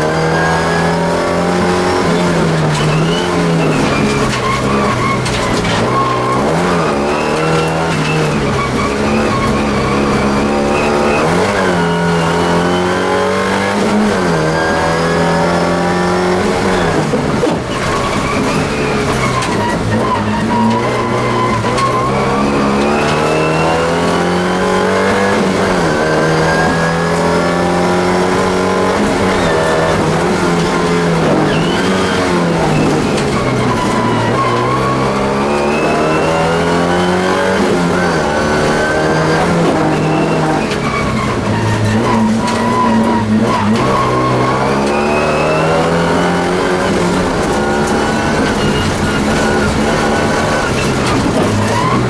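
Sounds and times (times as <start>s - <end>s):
race car engine revving: 0.0s - 52.0s.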